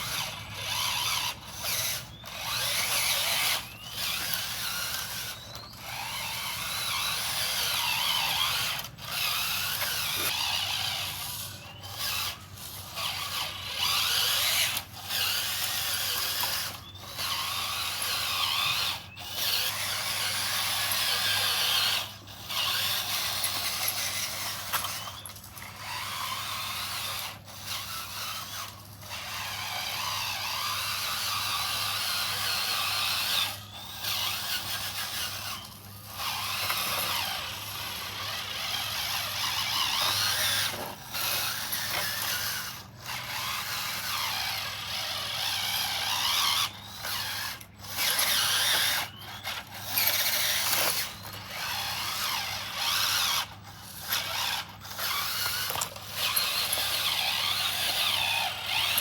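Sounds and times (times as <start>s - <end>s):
gears grinding: 0.0s - 59.0s
small electric motors whirring: 0.0s - 59.0s.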